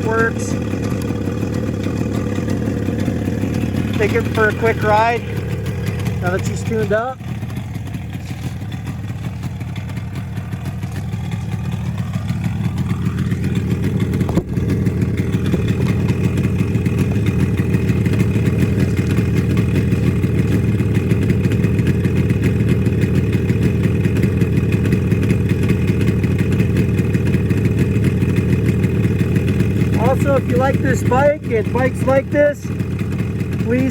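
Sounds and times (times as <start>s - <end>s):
two-stroke motorcycle engine: 0.0s - 33.9s.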